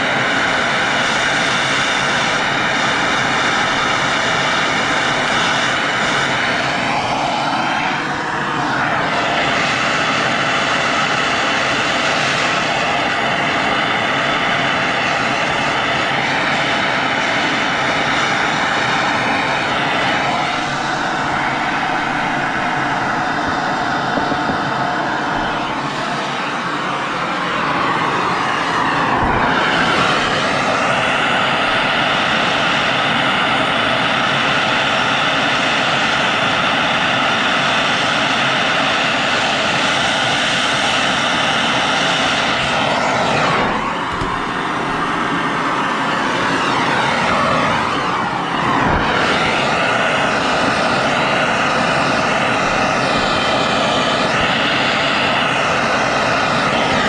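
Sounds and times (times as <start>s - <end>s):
torch flame hissing: 0.0s - 57.0s.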